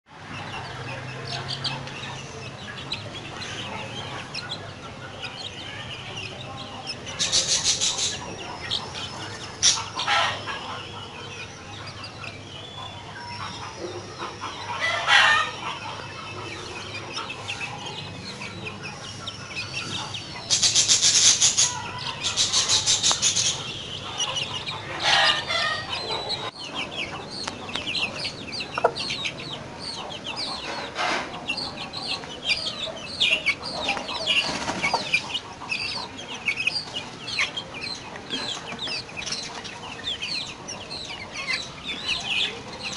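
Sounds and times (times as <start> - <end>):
chicks peeping: 0.1 - 42.9
hen clucking: 0.2 - 42.9.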